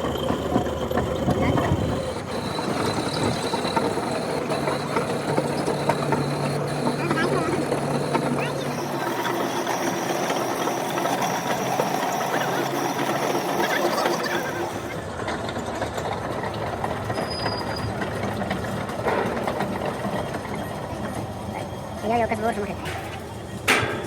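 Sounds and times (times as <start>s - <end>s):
heavy machinery rattling: 0.0s - 24.0s.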